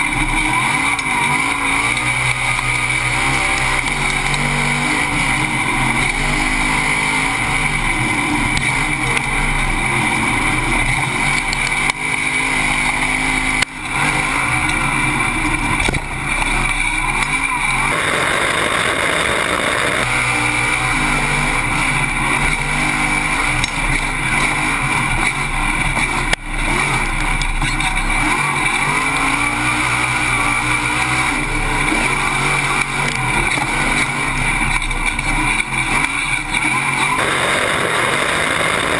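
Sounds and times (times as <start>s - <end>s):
race truck engine running hard: 0.0s - 38.9s.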